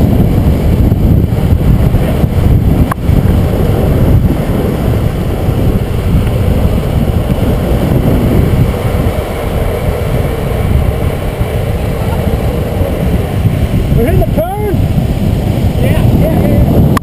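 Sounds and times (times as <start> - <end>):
longboard wheels rolling on asphalt: 0.0 - 17.0
wind buffeting microphone: 0.0 - 17.0.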